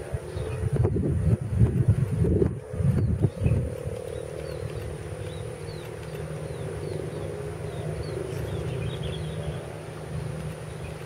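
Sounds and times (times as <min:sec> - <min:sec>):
distant turboprop engines droning: 0:00.0 - 0:11.0.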